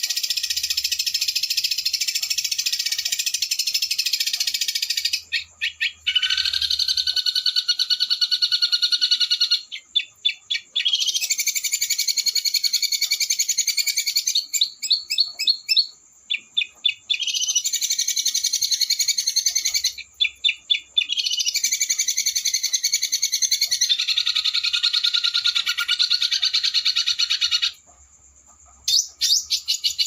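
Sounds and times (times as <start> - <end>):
songbird trilling: 0.0 - 27.8.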